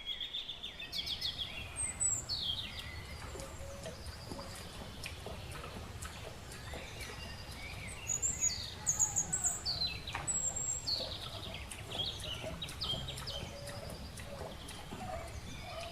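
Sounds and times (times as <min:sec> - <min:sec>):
birds singing and chirping: 0:00.0 - 0:15.9.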